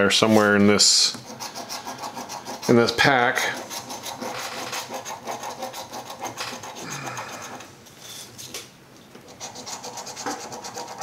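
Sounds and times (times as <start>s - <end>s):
coin scraping a scratch card: 1.2s - 8.3s, 9.3s - 11.0s.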